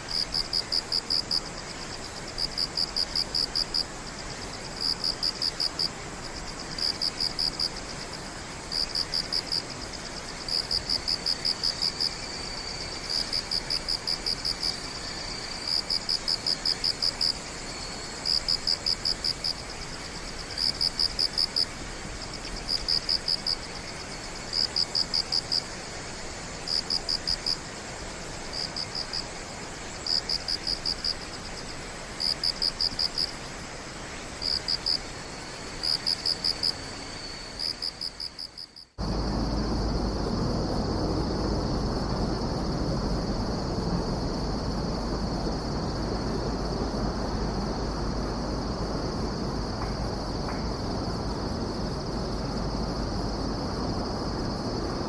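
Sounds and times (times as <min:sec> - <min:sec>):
background hiss: 0:00.0 - 0:55.0
cricket chirping: 0:00.0 - 0:55.0
faint insect trill: 0:00.0 - 0:55.0.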